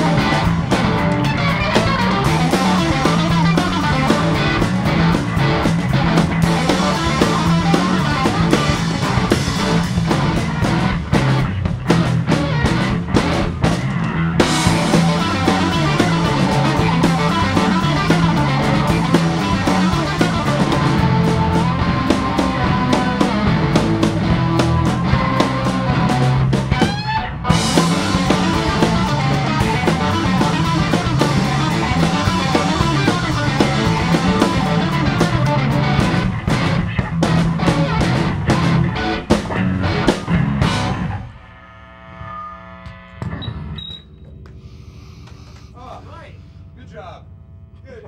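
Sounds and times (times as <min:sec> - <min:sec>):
drum kit: 0:00.0 - 0:41.3
rock band playing: 0:00.0 - 0:41.5
electric guitar: 0:00.0 - 0:47.9.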